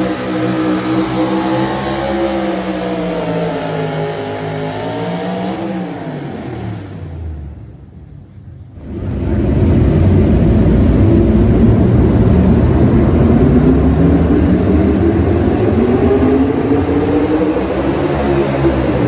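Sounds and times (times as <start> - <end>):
truck engine at full throttle: 0.0 - 19.0.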